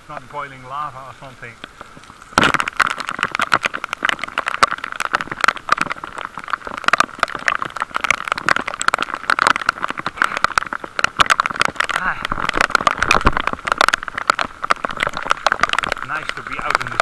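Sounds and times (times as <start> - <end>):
heavy rain ticking and tapping: 0.0 - 17.0.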